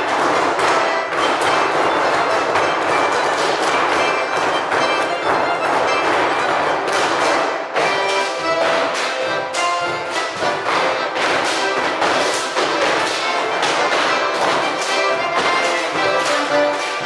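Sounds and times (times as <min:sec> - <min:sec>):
instrumental music with steady beat: 0:00.0 - 0:17.0.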